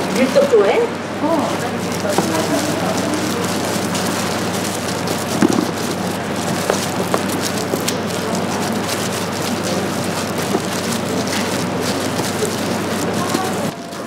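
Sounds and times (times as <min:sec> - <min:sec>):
oil popping: 0:01.3 - 0:14.0
food frying in hot oil: 0:01.6 - 0:14.0.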